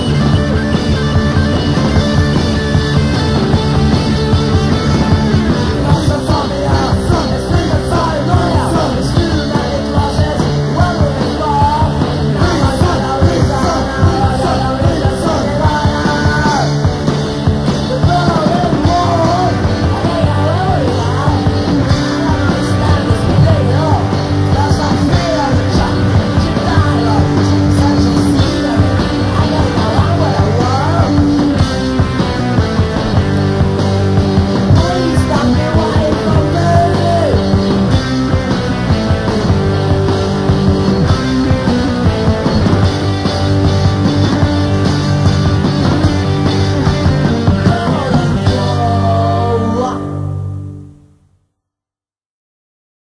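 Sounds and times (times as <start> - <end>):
punk rock band playing: 0.0 - 51.1.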